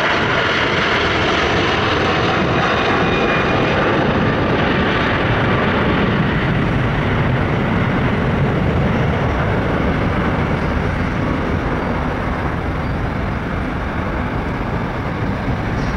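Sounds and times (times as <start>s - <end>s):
jet engine roar: 0.0s - 15.9s.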